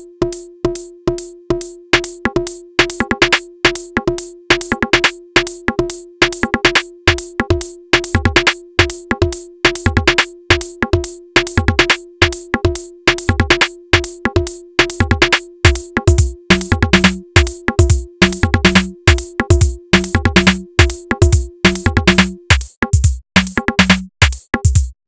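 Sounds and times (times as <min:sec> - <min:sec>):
drum machine beat: 0:00.2 - 0:25.0.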